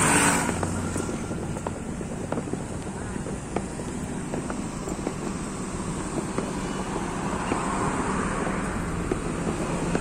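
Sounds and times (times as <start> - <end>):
road traffic rushing: 0.0 - 10.0
vehicle passing close: 0.0 - 10.0.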